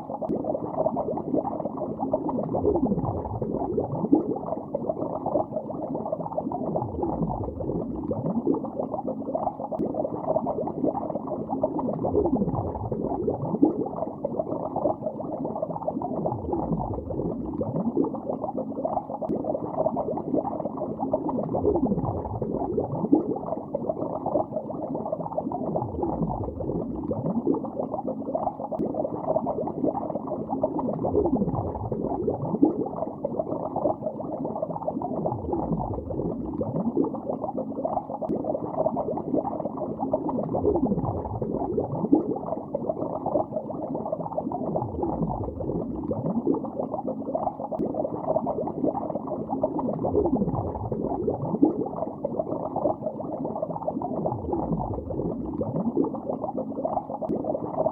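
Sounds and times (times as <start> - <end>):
underwater bubbling: 0.0 - 57.9.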